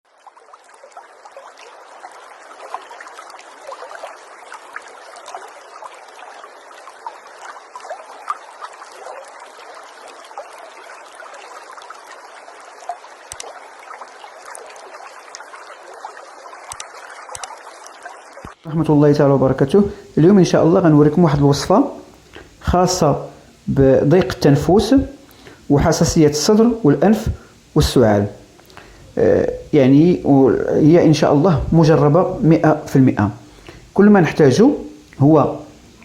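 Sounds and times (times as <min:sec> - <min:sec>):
trickling babbling water: 0:00.0 - 0:36.0.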